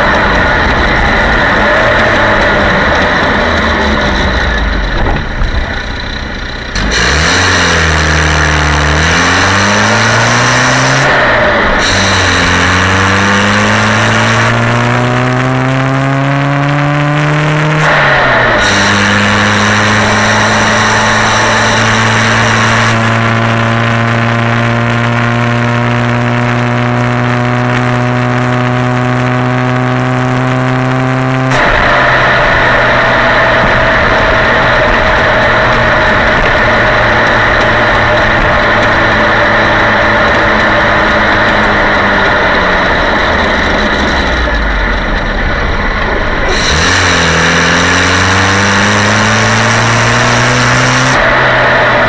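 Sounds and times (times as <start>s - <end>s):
car engine revving while driving: 0.0s - 52.0s.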